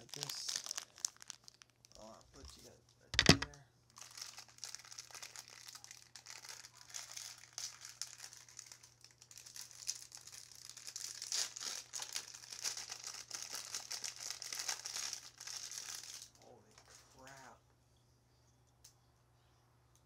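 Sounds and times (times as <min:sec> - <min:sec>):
packaging crinkling: 0:00.0 - 0:17.0
faint low hum: 0:00.0 - 0:20.0.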